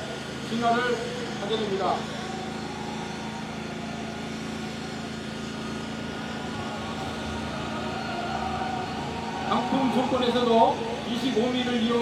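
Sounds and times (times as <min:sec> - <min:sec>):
truck engine pumping water: 0:00.0 - 0:12.0.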